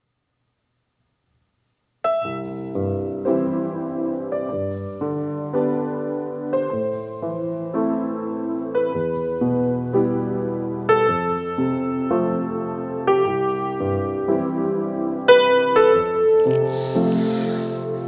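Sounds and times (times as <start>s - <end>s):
grand piano playing: 2.1s - 18.0s.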